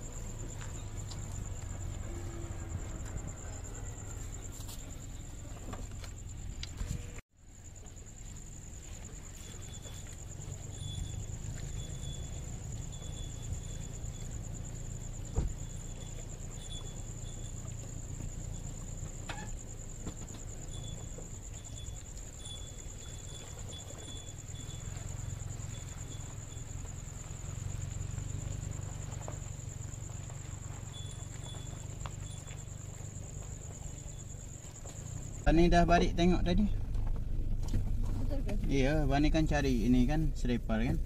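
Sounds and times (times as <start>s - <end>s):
continuous low rumble: 0.0s - 41.0s
insects trilling: 0.0s - 41.0s.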